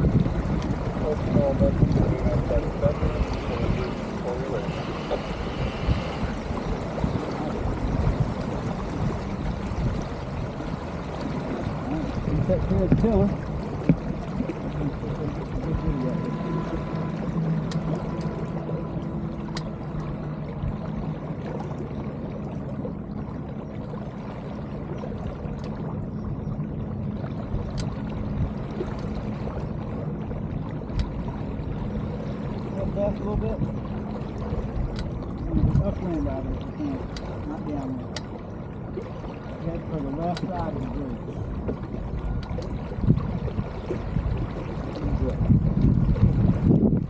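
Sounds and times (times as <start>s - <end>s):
wind buffeting microphone: 0.0s - 21.6s, 25.0s - 47.0s
water rushing along boat hull: 0.0s - 47.0s.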